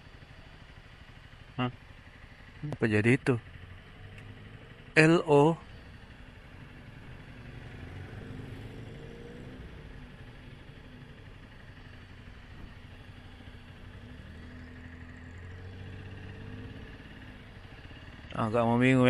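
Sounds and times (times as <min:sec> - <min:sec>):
vehicle engines in traffic: 0:00.0 - 0:19.0.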